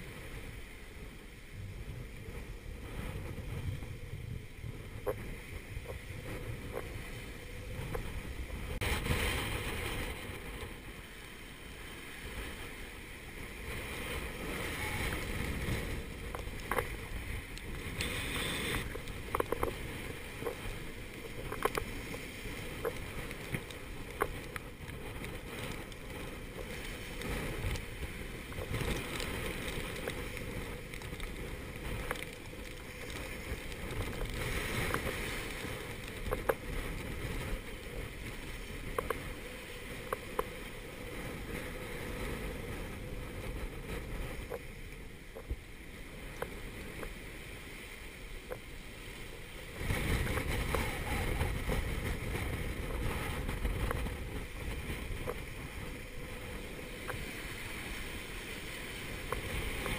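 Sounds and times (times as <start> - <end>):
gale-force wind roaring: 0.0 - 59.9
breaking seas rushing: 1.9 - 44.7, 45.4 - 59.9.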